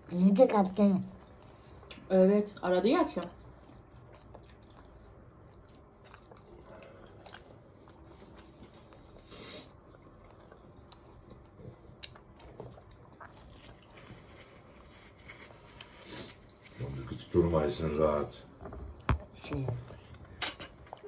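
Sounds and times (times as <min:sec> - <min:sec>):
faint chewing of food: 0:01.0 - 0:17.6, 0:18.5 - 0:21.0.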